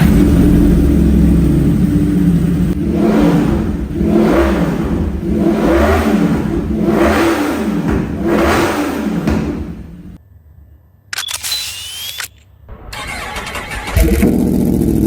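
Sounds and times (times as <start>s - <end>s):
motorcycle engine revving: 0.0s - 10.2s, 12.7s - 15.0s.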